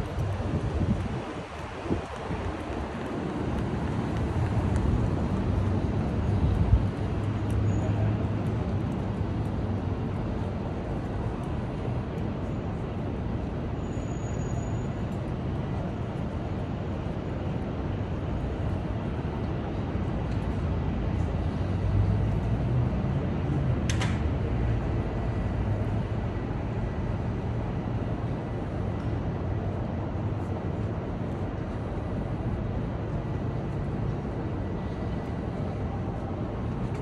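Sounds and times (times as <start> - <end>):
passing traffic rumble: 0.0 - 37.0.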